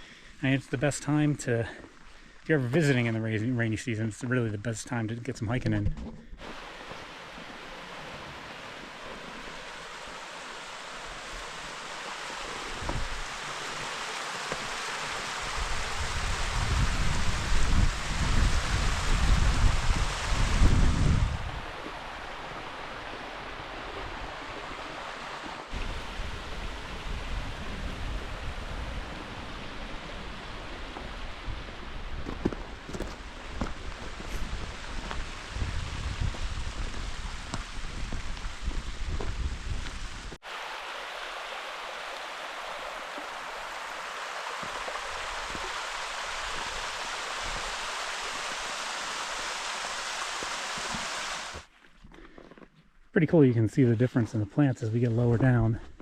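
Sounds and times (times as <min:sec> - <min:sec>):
water rushing down rocky creek: 0:06.4 - 0:51.7.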